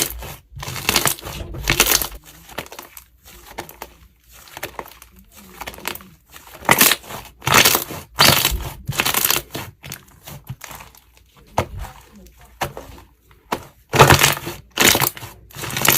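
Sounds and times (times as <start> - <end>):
slime crackling and crunching: 0.0 - 15.9.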